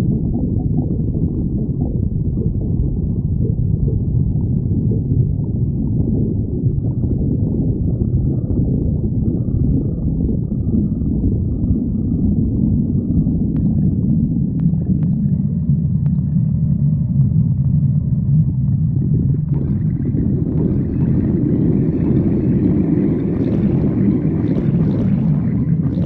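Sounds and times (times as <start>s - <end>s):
stomach growling: 0.0s - 26.0s.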